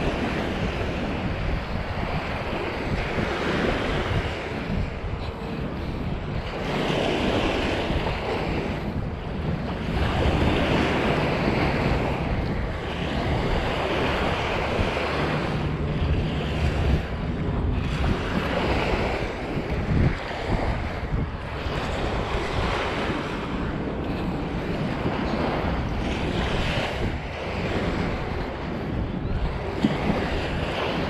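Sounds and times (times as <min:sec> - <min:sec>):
waves washing onto beach: 0:00.0 - 0:31.0
wind buffeting microphone: 0:00.0 - 0:31.0.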